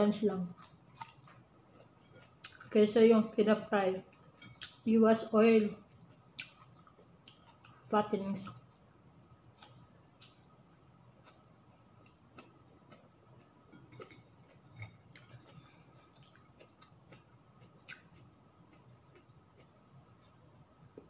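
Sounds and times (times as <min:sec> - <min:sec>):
person chewing food: 0:00.4 - 0:02.8, 0:04.0 - 0:04.9, 0:05.8 - 0:21.0.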